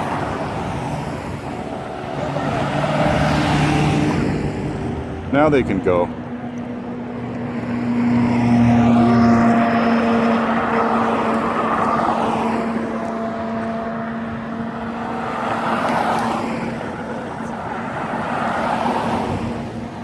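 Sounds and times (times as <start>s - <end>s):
cars driving past: 0.0s - 20.0s
engine hum: 0.0s - 20.0s.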